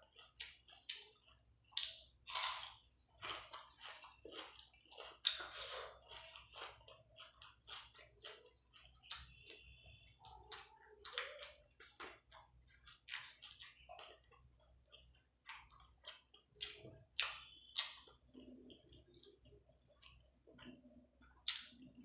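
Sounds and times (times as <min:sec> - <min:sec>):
squishy chewing: 0:00.0 - 0:22.0.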